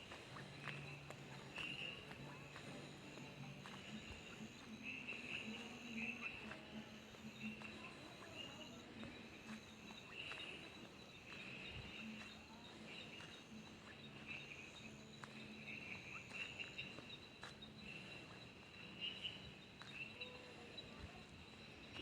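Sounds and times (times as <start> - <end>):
insects droning: 0.0 - 22.0
pulsing cricket trills: 0.0 - 22.0.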